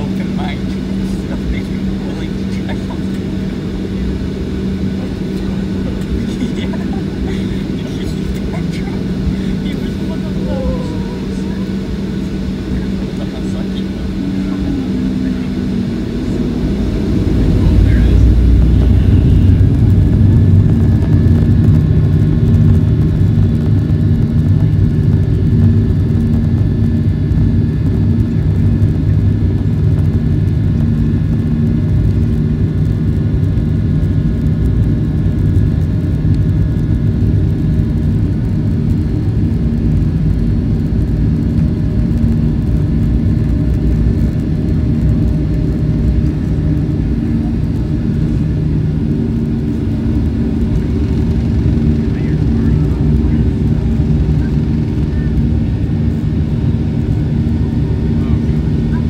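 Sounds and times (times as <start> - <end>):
jet engines and wheels rumbling: 0.0 - 59.0.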